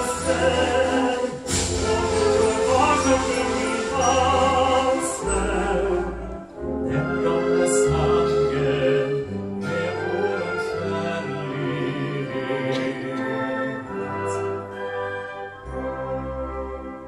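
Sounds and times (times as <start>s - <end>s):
man singing: 0.0s - 14.5s
orchestra playing: 0.0s - 17.0s.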